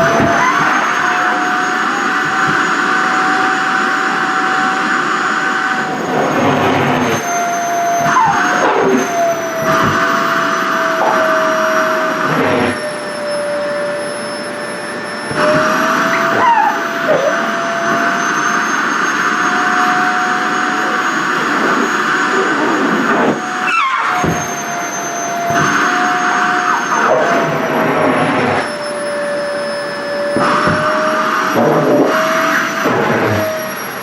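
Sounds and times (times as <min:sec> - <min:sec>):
vacuum cleaner whining: 0:00.0 - 0:34.0.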